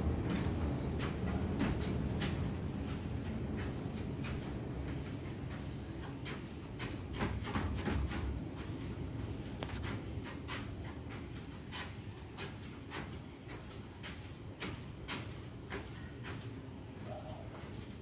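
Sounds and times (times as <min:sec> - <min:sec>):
treadmill motor hum: 0:00.0 - 0:18.0.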